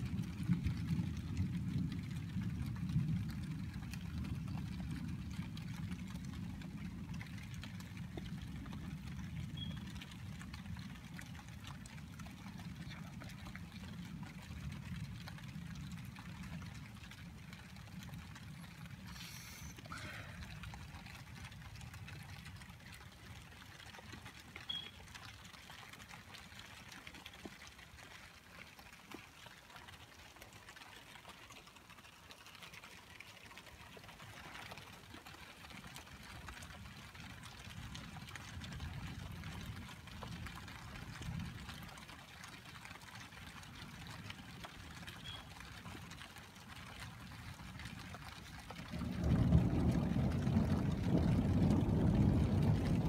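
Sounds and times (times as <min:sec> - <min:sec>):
rain falling and trickling: 0:00.0 - 0:53.0.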